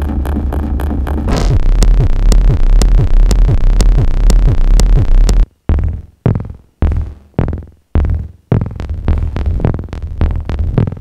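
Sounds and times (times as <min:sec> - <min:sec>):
synthesizer hits: 0:00.0 - 0:09.8
synthesizer drone with falling thump: 0:00.0 - 0:11.0.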